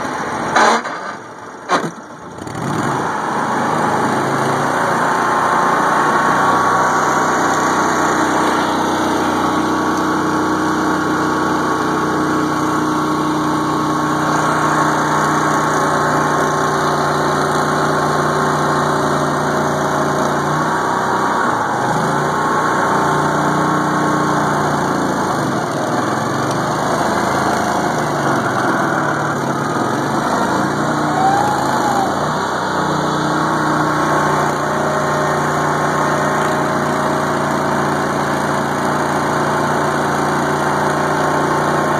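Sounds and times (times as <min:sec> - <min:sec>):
boat engine running: 0:00.0 - 0:41.9.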